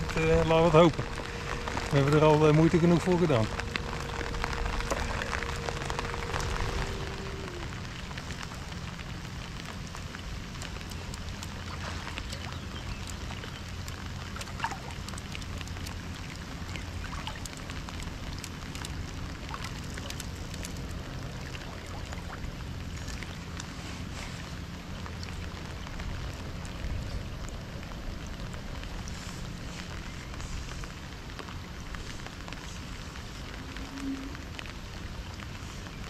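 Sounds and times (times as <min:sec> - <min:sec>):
steady low hum: 0:00.0 - 0:34.3
heavy rain falling: 0:00.0 - 0:36.0.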